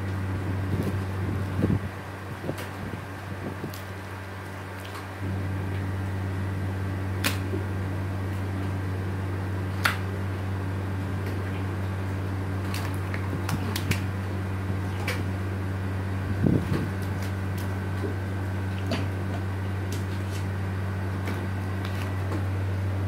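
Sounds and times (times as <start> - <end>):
low machine hum with whine: 0.0 - 23.0.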